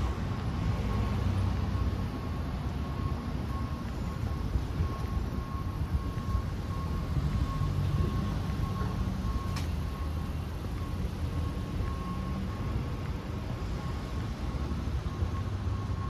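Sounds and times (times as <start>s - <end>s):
low rumble of passing vehicles: 0.0s - 16.0s.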